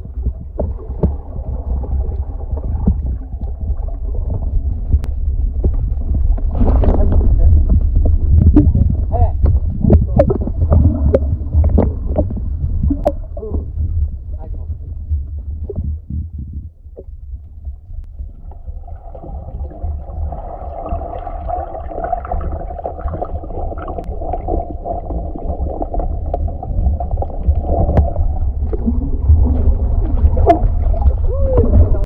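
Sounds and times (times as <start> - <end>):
muffled underwater water rumble: 0.0 - 32.0
water gurgling: 0.0 - 32.0.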